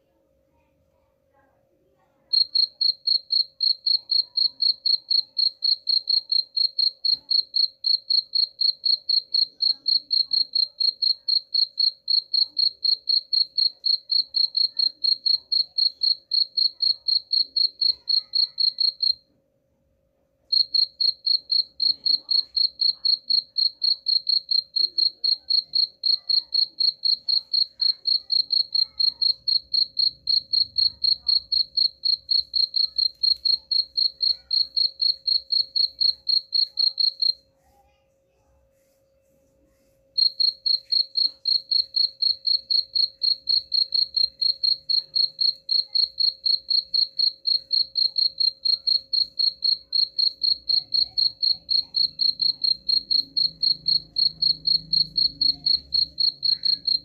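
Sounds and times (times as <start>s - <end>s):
cricket chirping: 2.3s - 19.2s, 20.5s - 37.4s, 40.2s - 57.0s.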